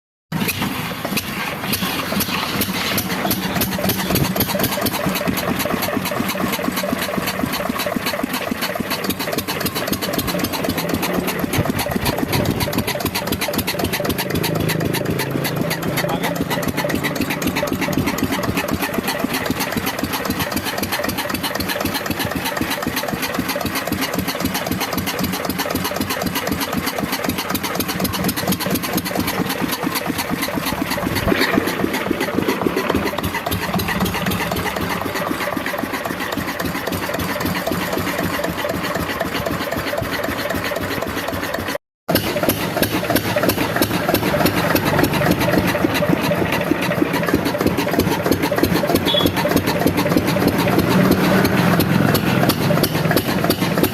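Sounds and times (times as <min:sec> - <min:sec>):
diesel engine running: 0:00.3 - 0:53.9.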